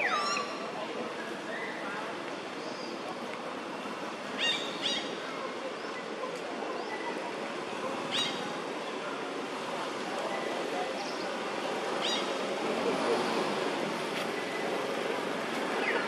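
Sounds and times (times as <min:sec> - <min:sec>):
distant motorbike traffic: 0:00.0 - 0:16.0
people's voices: 0:00.0 - 0:16.0.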